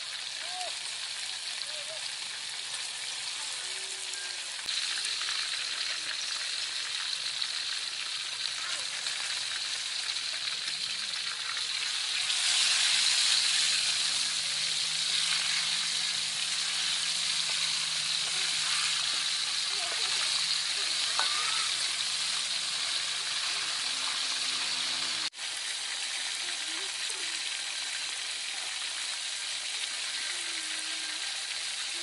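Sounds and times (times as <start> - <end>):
meat sizzling in hot oil: 0.0 - 32.0.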